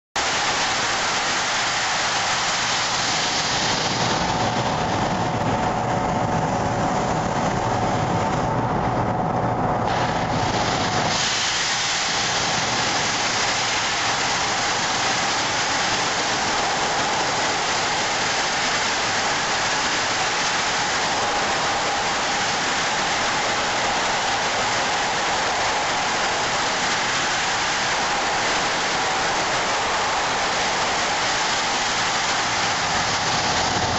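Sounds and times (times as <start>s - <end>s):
sandblasting nozzle hissing: 0.2s - 5.5s, 9.9s - 33.9s
low steady hum: 0.2s - 33.9s.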